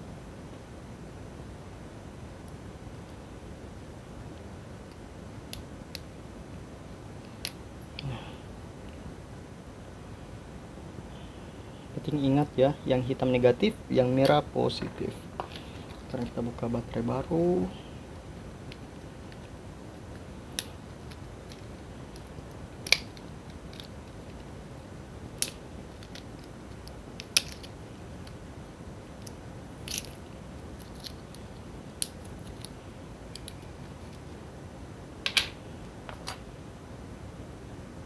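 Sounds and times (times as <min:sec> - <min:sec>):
steady low hiss: 0:00.0 - 0:38.0.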